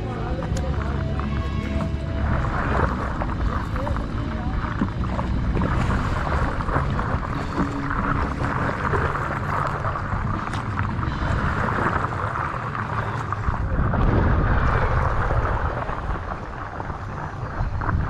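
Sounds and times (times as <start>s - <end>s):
water splashing against board: 0.0s - 18.0s
wind rumble on microphone: 0.0s - 18.0s.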